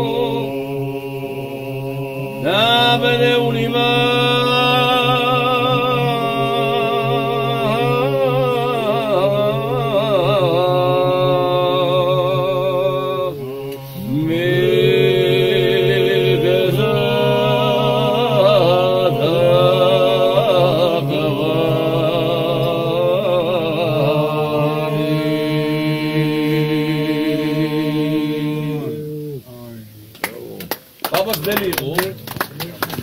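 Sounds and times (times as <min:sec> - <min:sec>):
low vocal drone: 0:00.0 - 0:30.7.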